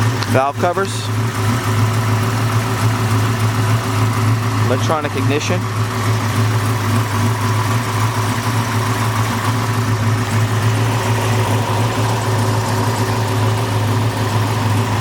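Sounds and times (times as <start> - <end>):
car engine idling lumpily: 0.0 - 15.0.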